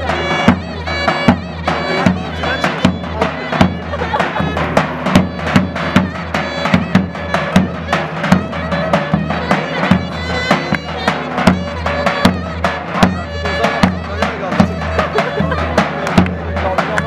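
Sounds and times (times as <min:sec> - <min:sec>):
bass drum beat: 0:00.0 - 0:17.0
reedy pipe melody: 0:00.0 - 0:17.0.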